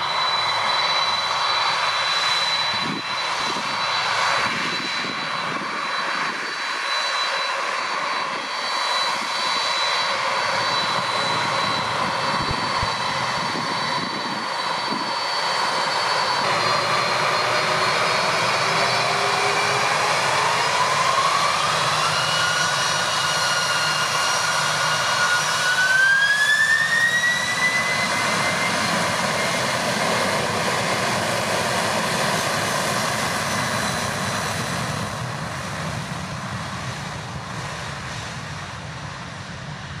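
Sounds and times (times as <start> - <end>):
jet engines whining: 0.0 - 40.0.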